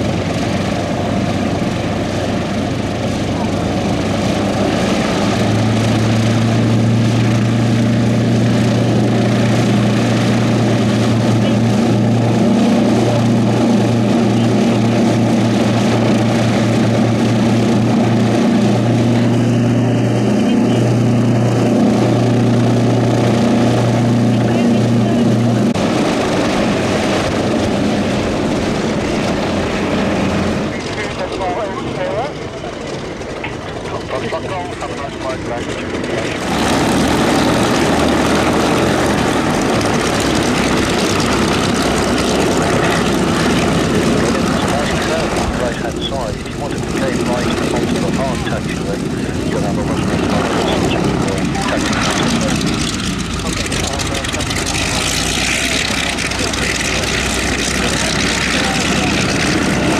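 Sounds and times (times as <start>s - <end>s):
aircraft engines idling: 0.0s - 59.9s.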